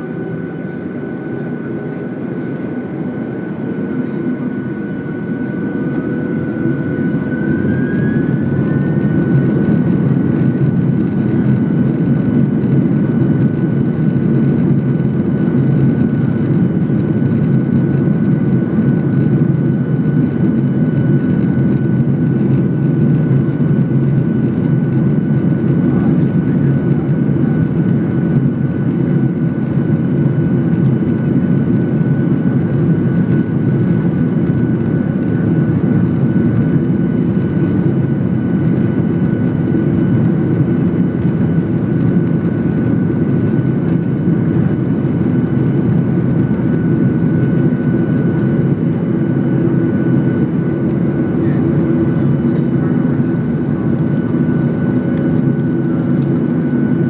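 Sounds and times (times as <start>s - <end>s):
jet engine rumble in cabin: 0.0s - 57.0s.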